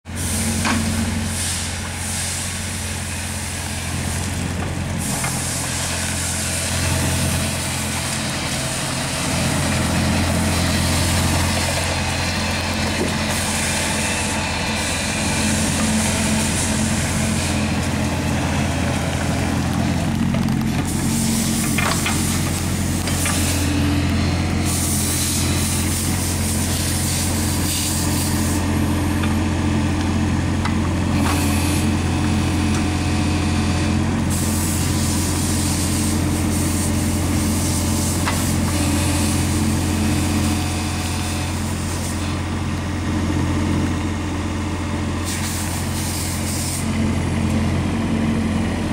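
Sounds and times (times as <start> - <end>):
excavator diesel engine running: 0.1 - 48.9.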